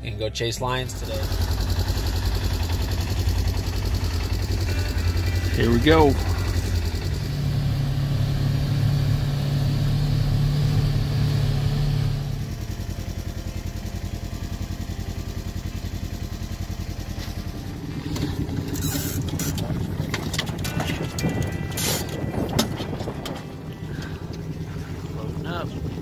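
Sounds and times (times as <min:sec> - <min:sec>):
vehicle engine humming: 0:00.0 - 0:26.0
fluttering engine: 0:00.7 - 0:26.0.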